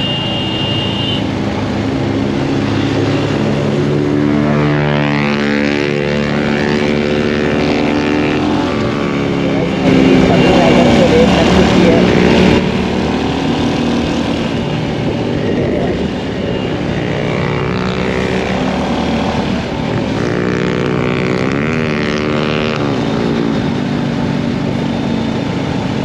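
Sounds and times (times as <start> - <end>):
motorcycle engine running: 2.6 - 26.0.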